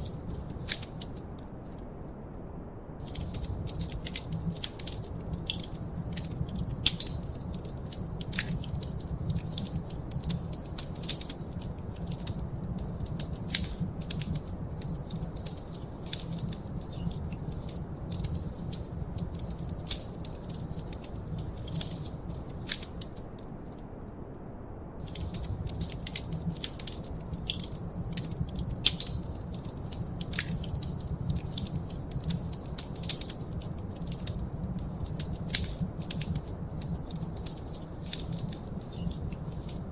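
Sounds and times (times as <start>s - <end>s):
wood fire crackling and popping: 0.0s - 1.8s, 3.0s - 23.8s, 25.0s - 39.9s
low rumble of flames: 0.0s - 39.9s.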